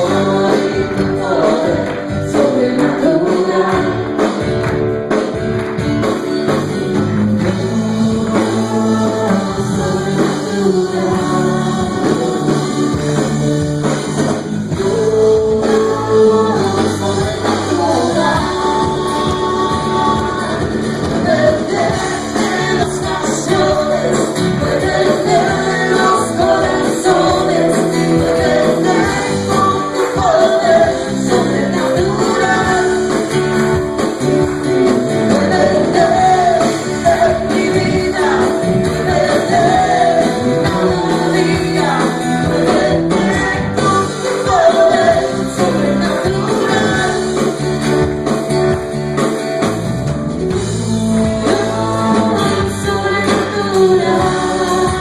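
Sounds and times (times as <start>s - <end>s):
woman singing: 0.0s - 4.3s, 7.4s - 13.4s, 14.7s - 33.3s, 35.3s - 47.5s, 50.9s - 55.0s
man singing: 0.0s - 4.4s, 7.2s - 48.0s, 50.6s - 55.0s
guitar: 0.0s - 55.0s
keyboard: 0.0s - 55.0s.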